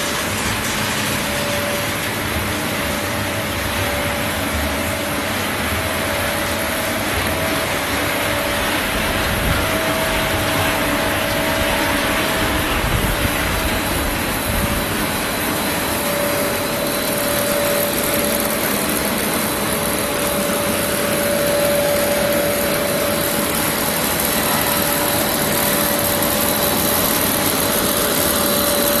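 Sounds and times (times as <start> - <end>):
constant machine whine: 0.0 - 29.0
machinery din: 0.0 - 29.0.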